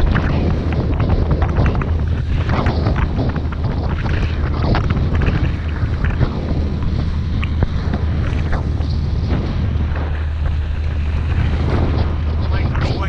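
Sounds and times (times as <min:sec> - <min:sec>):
outboard motor running: 0:00.0 - 0:13.0
water slapping against hull: 0:00.0 - 0:13.0
wind buffeting microphone: 0:00.0 - 0:13.0.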